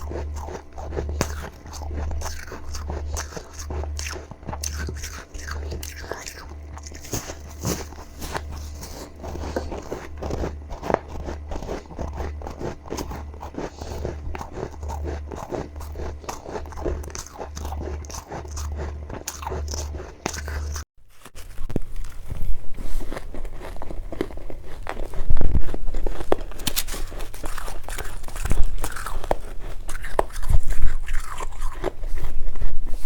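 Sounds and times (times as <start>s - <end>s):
chewing crunchy ice: 0.0s - 33.0s.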